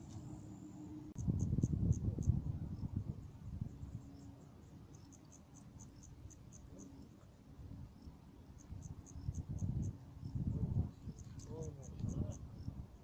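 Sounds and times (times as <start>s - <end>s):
insect chirping: 0.6s - 13.0s.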